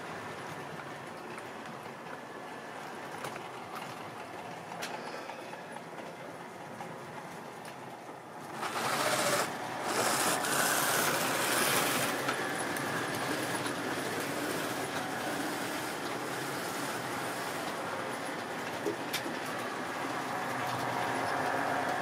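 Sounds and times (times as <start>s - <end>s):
model train rattling on track: 0.0s - 22.0s.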